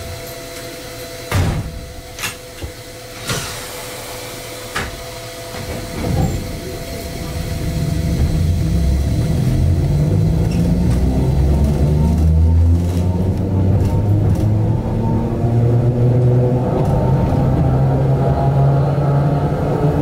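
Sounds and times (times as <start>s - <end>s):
train motors and wheels rumbling: 0.0s - 20.0s.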